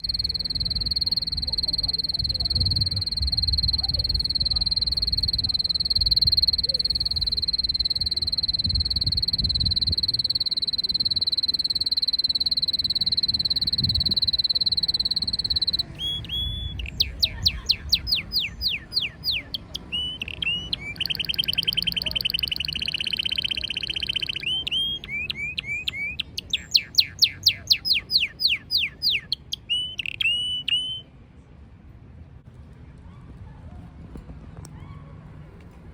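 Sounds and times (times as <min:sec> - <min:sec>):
canary singing: 0:00.0 - 0:31.1.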